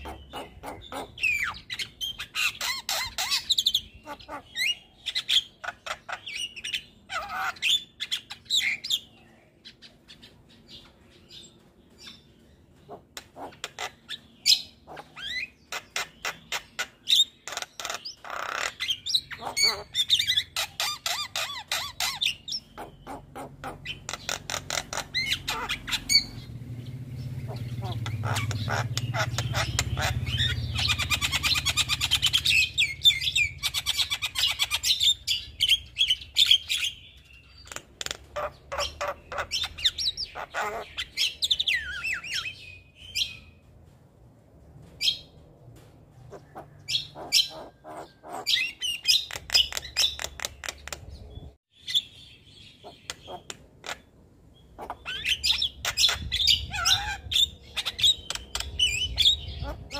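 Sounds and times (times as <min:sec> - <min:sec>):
myna bird chattering: 0:00.0 - 0:43.4, 0:46.3 - 0:59.9.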